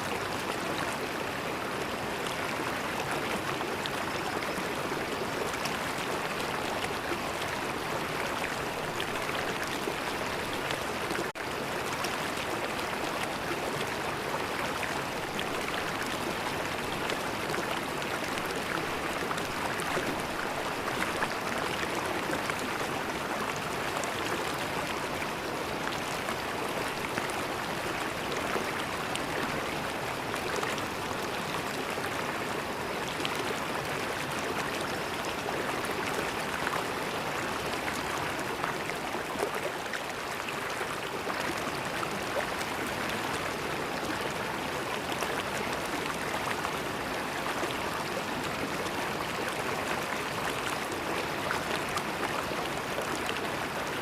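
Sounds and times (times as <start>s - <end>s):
river water flowing over stones: 0.0s - 54.0s.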